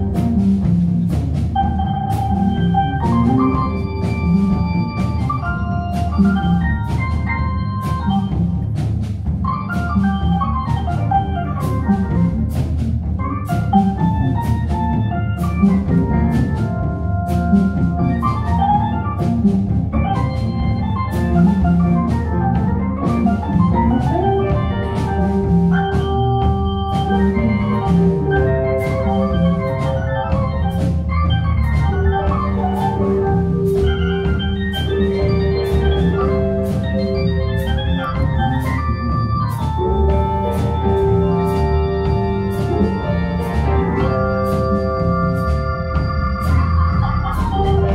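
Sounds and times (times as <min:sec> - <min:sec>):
bass: 0:00.0 - 0:47.9
drum beat: 0:00.0 - 0:47.9
organ lead with held notes: 0:00.0 - 0:47.9.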